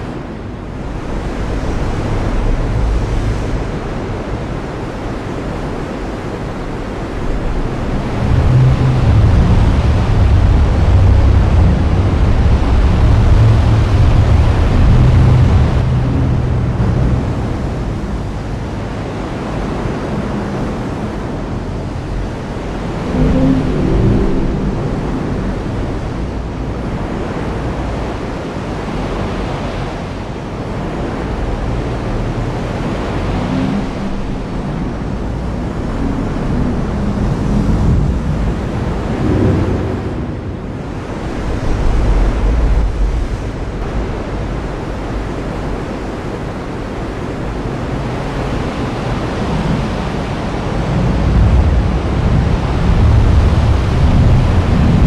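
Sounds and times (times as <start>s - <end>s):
low rumbles: 0.0s - 55.0s.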